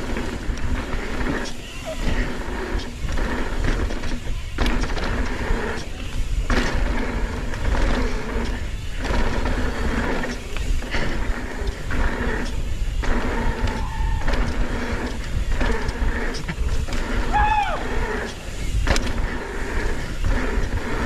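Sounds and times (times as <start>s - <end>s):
bike mechanical rattle: 0.0s - 21.0s
tyres running over dirt trail: 0.0s - 21.0s
wind buffeting microphone: 0.0s - 21.0s.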